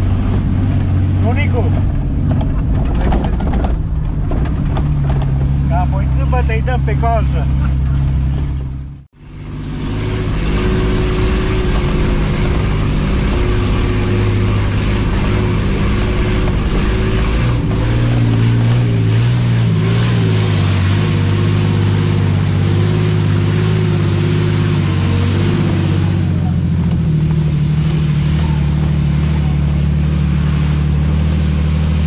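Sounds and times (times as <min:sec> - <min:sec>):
engine running under load: 0:00.0 - 0:32.0.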